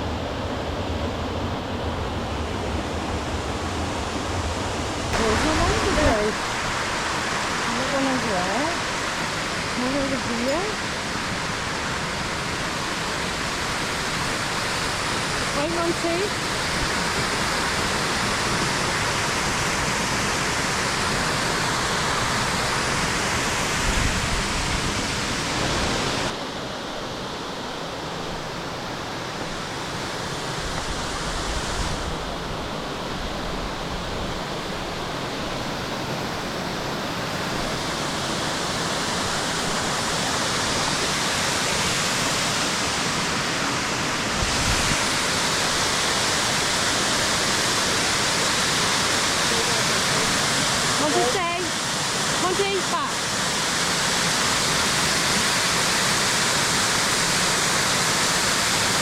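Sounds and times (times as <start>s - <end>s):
waterfall rushing: 1.5s - 59.0s.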